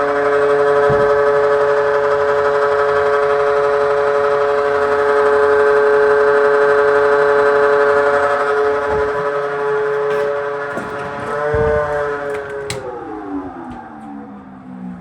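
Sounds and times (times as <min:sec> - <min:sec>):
ventilation fan droning hum: 0:00.0 - 0:15.0.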